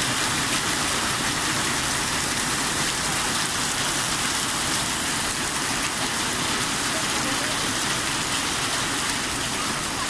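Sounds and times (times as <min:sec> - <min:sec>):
heavy rain and hail falling: 0:00.0 - 0:10.0.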